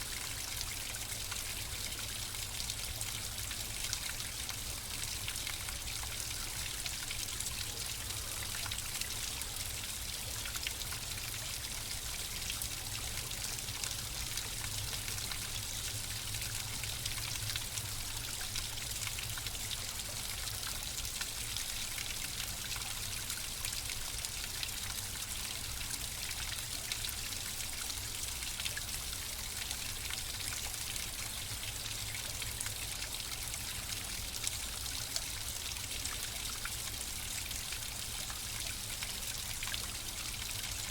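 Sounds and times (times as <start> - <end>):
flowing water trickling: 0.0 - 40.9.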